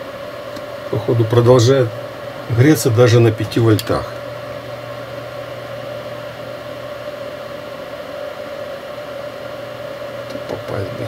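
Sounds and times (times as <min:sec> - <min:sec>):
low hum: 0:00.0 - 0:11.0
mid-pitched whine: 0:00.0 - 0:11.0.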